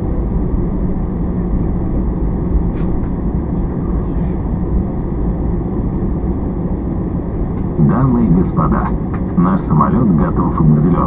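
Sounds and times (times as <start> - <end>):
cabin air: 0.0 - 11.0
jet engines low rumble: 0.0 - 11.0.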